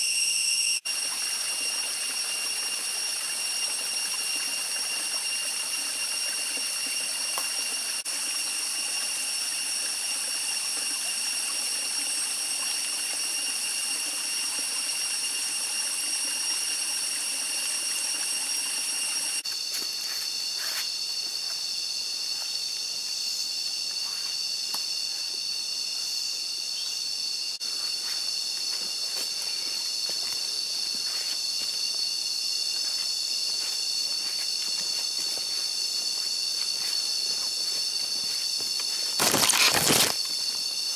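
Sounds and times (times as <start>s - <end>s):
insect chorus buzzing and trilling: 0.0s - 40.9s.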